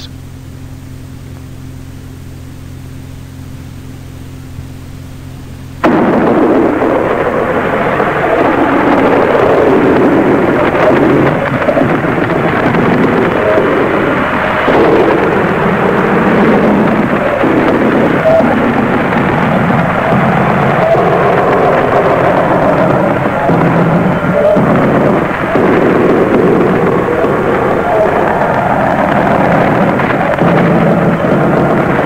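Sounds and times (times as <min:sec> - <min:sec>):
low steady hum: 0:00.0 - 0:32.0
radio static rush: 0:00.0 - 0:32.0.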